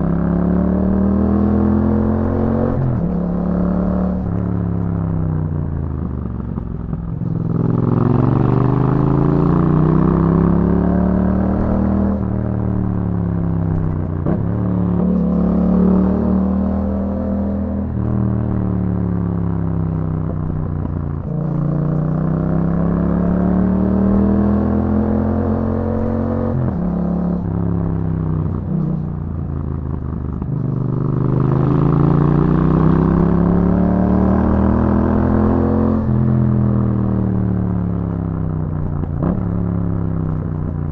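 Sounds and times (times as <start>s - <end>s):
motorcycle engine under load: 1.4s - 40.9s.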